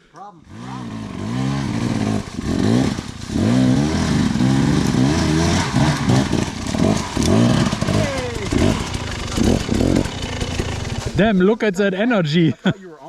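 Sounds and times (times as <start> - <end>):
dirt bike engine revving: 0.4 - 11.4.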